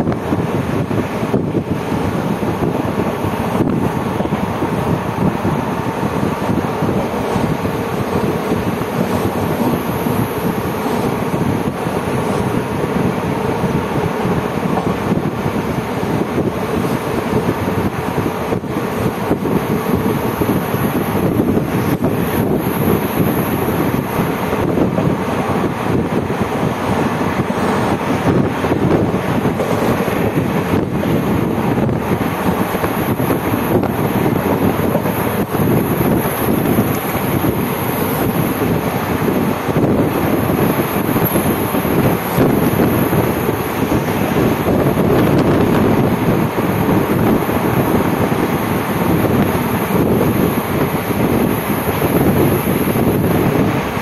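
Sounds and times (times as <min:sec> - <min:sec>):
train wheels rumbling on rails: 0:00.0 - 0:54.0
wind noise on microphone: 0:00.0 - 0:54.0.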